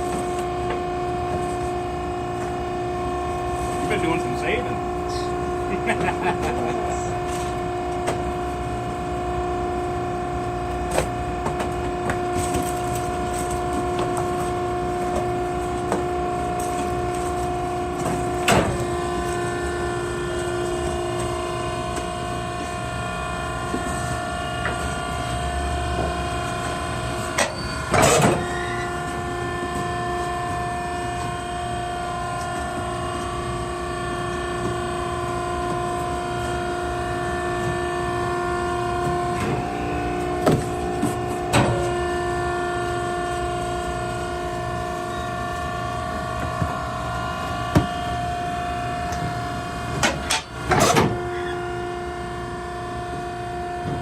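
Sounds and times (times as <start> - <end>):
hydraulic power unit humming: 0.0 - 54.0.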